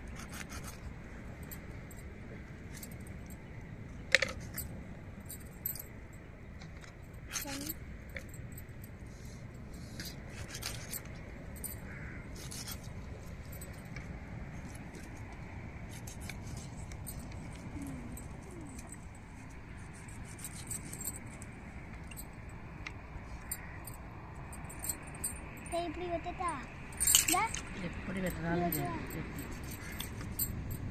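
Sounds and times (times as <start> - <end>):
glass bangles clinking: 2.7 - 15.1, 16.0 - 30.9.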